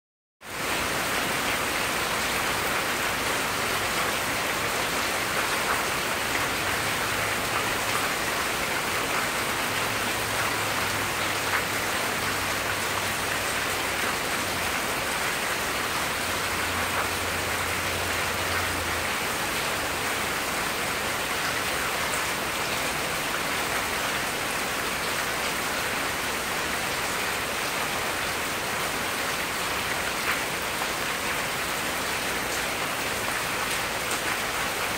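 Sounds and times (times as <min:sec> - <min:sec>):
steady rain falling: 0:00.4 - 0:34.9.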